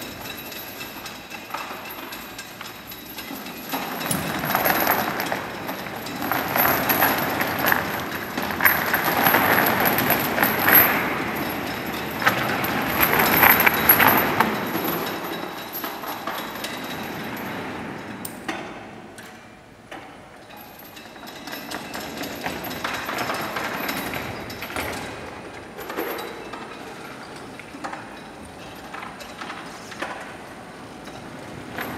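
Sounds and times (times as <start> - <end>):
heavy chains clanking: 0.0 - 18.5, 20.4 - 31.9.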